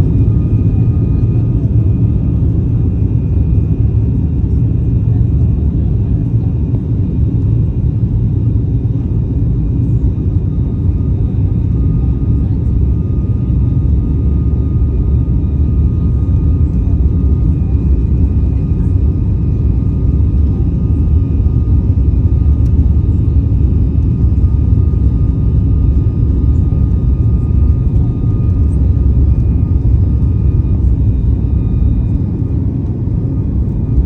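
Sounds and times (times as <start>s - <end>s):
jet engines deep rumble: 0.0s - 34.0s.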